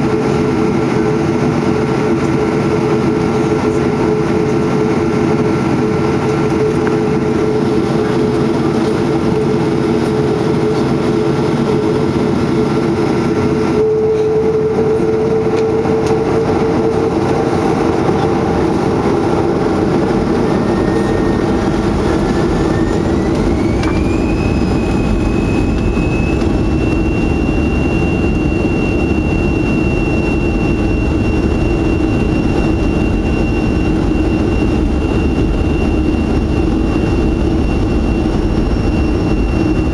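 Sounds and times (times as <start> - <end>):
aircraft cabin engine hum: 0.0 - 39.9
jet engine whine rising: 0.0 - 39.9
low engine rumble: 0.0 - 39.9.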